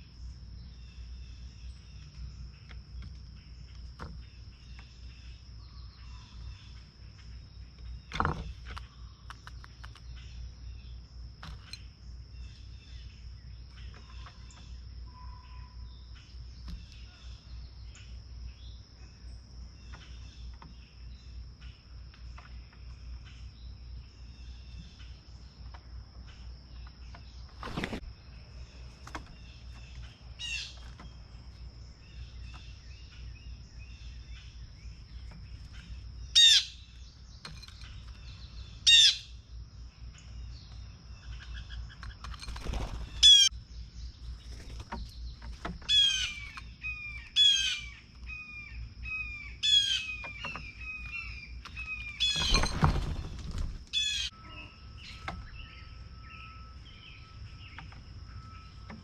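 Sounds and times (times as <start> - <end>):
bird chirps: 0.0 - 59.0
insect drone: 0.0 - 59.0.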